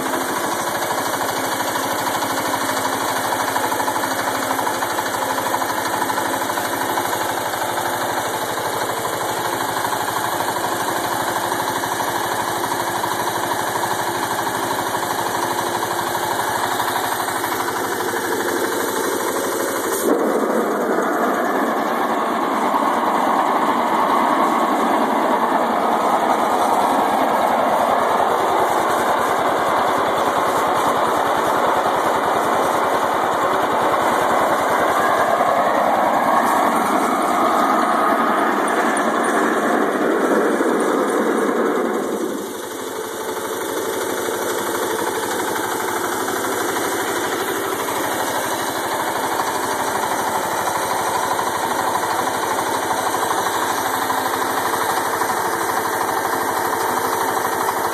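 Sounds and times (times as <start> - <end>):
lawn tractor engine puttering: 0.0 - 57.9.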